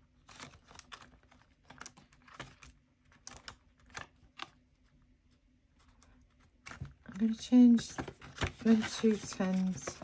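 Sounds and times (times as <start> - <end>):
plastic sleeves crinkling: 0.0 - 10.0.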